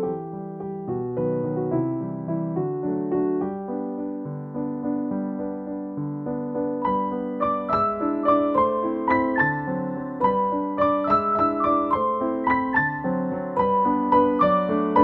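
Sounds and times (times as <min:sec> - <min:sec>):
keyboard melody over chords: 0:00.0 - 0:15.0.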